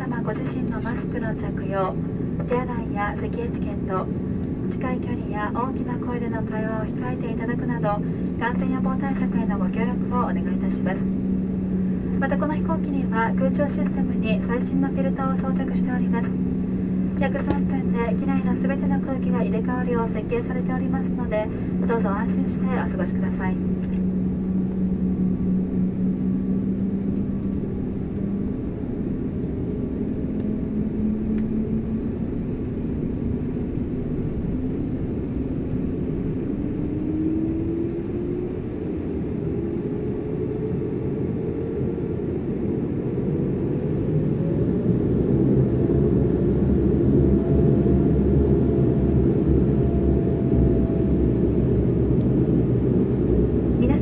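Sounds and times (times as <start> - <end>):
turboprop engine whine spooling up: 0.0 - 54.0.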